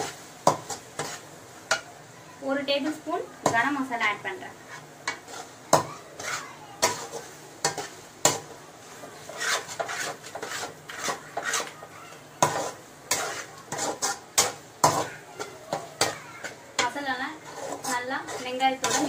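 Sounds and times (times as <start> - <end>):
metal spatula scraping pan: 0.0 - 1.9, 2.9 - 19.0
sizzling in oil: 0.0 - 19.0.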